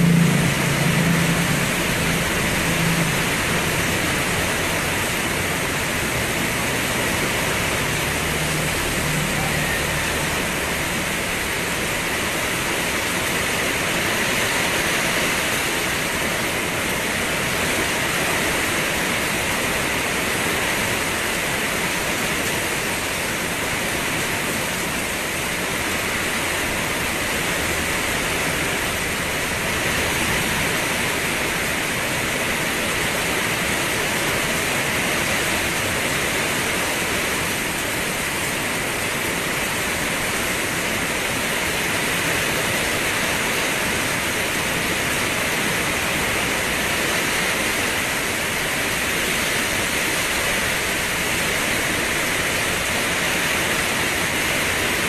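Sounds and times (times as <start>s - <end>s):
low engine hum: 0.0s - 55.0s
steady rainfall: 0.0s - 55.0s.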